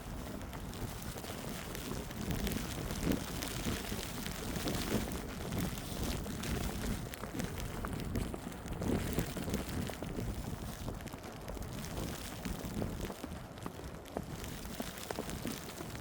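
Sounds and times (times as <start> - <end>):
footsteps crunching in snow: 0.0 - 16.0
wind rumble on microphone: 0.0 - 16.0.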